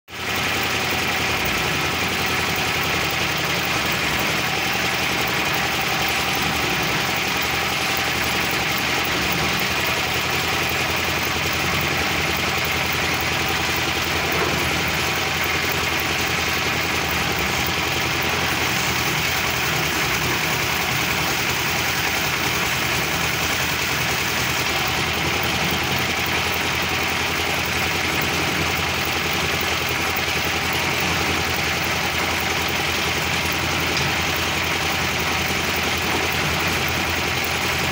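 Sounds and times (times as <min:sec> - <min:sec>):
concrete mixer engine running: 0:00.1 - 0:37.9.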